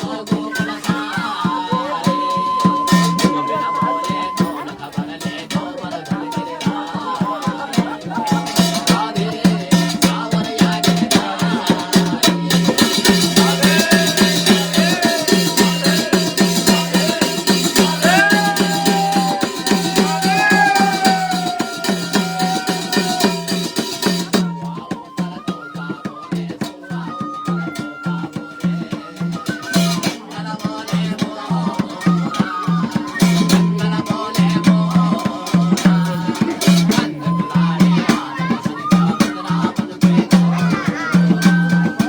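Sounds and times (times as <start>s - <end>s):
drums beating fast: 0.0s - 42.0s.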